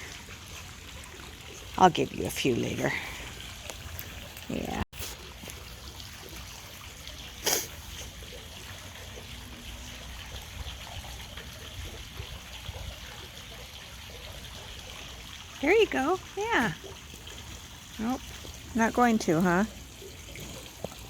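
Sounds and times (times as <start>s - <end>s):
water trickling: 0.0s - 21.0s.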